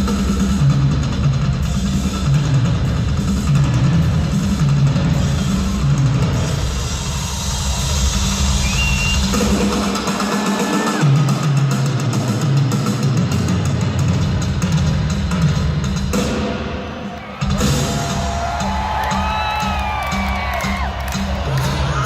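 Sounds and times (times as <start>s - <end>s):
drums: 0.0s - 22.0s
rock band playing live: 0.0s - 22.0s.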